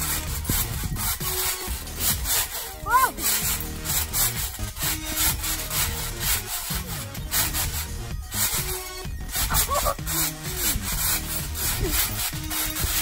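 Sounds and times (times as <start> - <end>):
trampoline mat bouncing: 0.0 - 13.0
trampoline springs creaking: 0.0 - 13.0.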